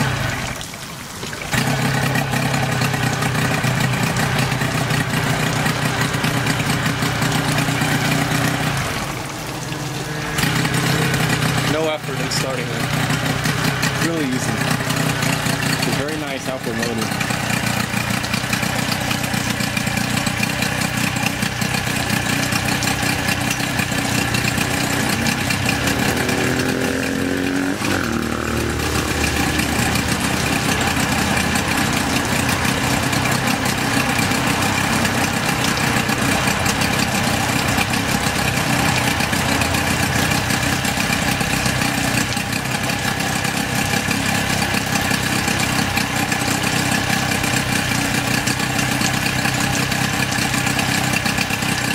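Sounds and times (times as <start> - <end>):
outboard motor running: 0.0 - 51.9.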